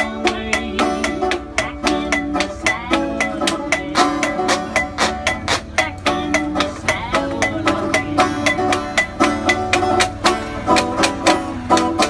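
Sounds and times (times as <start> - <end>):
banjo playing: 0.0 - 12.0.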